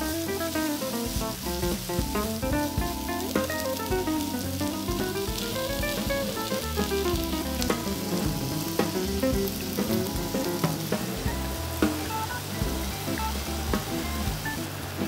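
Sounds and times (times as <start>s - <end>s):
plucked melody background music: 0.0s - 15.0s
vegetables sizzling in oil: 0.0s - 15.0s.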